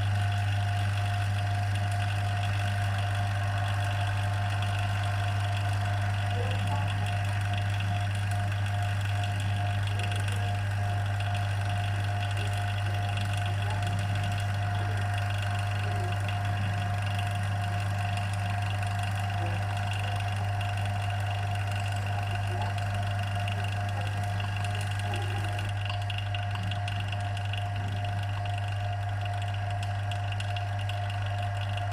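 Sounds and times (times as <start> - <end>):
electric vacuum pump humming: 0.0 - 31.9.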